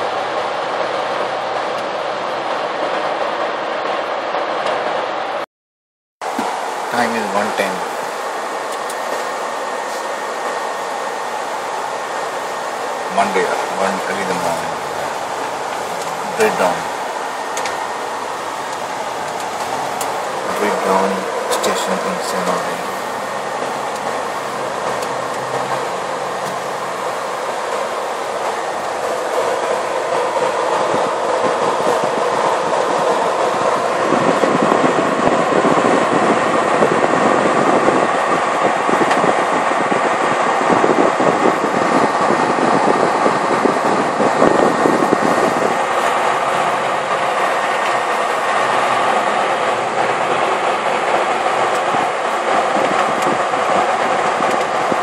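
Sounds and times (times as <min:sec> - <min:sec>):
bus engine and road noise: 0:00.0 - 0:05.4, 0:06.2 - 0:55.0.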